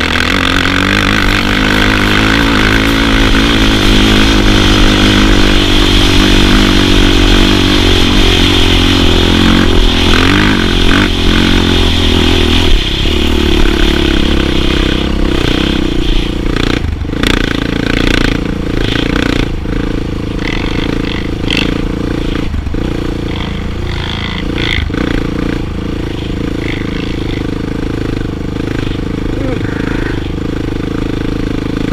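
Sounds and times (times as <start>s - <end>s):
quad bike engine running: 0.0s - 31.9s.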